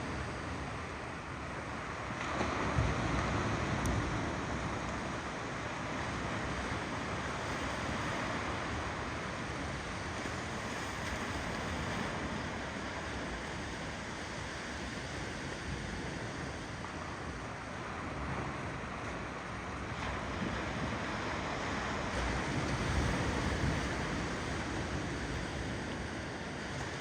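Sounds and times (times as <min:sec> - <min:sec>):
ocean waves on shore: 0:00.1 - 0:27.0.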